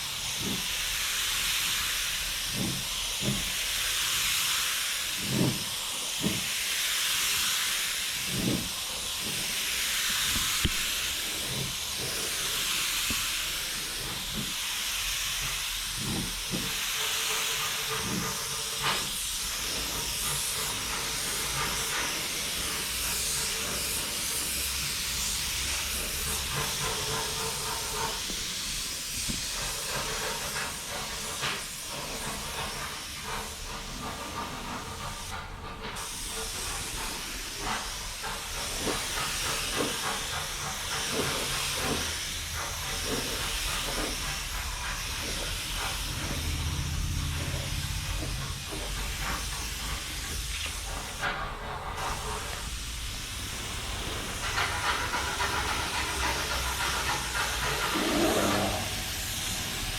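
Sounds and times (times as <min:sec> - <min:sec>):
spray gun hissing: 0:00.0 - 0:35.3, 0:36.0 - 0:59.9.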